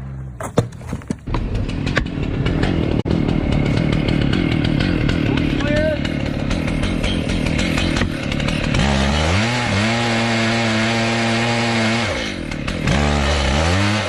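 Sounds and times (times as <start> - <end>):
chainsaw cutting at high throttle: 1.3 - 14.0.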